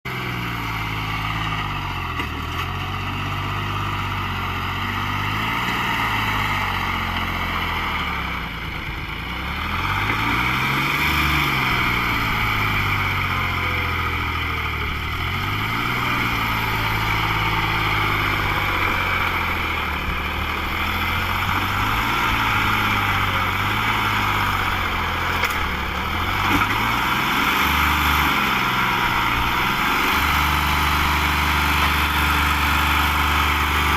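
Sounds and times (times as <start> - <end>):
tractor diesel engine revving: 0.1 - 33.9.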